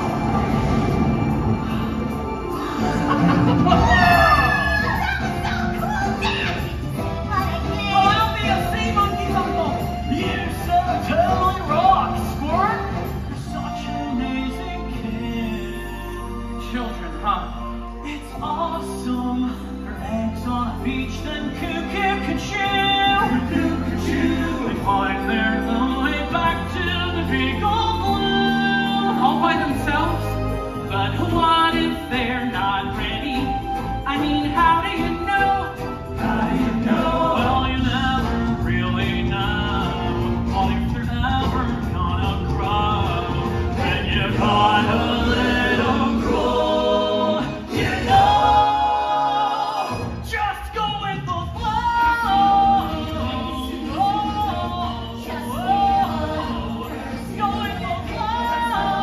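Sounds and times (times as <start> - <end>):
orchestral chords: 0.0 - 50.3
singing voices: 0.0 - 59.0.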